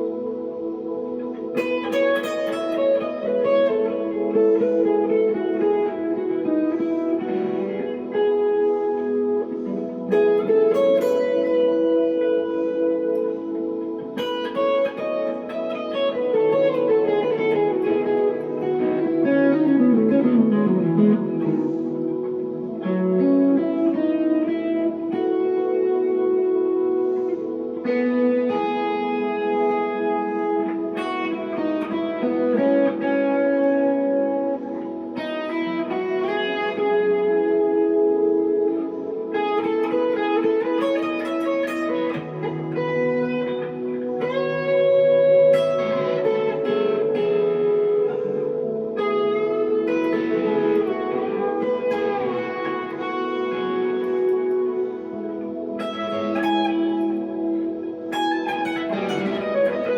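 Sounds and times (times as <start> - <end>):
electric guitar chords and bends: 0.0 - 59.9.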